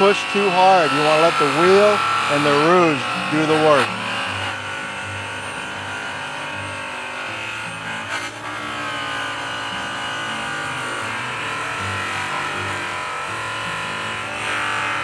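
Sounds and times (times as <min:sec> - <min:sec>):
electric polisher running: 0:00.0 - 0:15.0.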